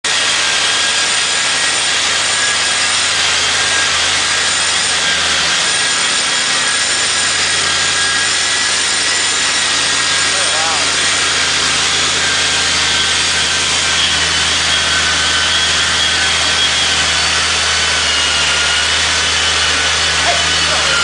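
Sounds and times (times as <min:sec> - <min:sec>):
supercharger whine: 0:01.6 - 0:21.0.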